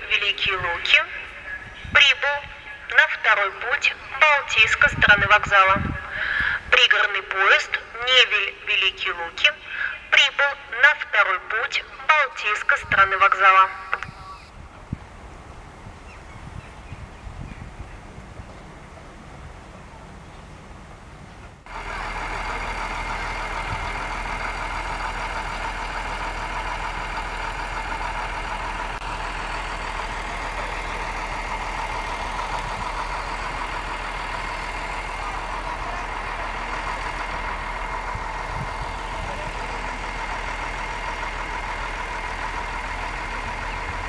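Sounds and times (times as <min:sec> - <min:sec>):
diesel train engine idling: 0:00.0 - 0:44.0.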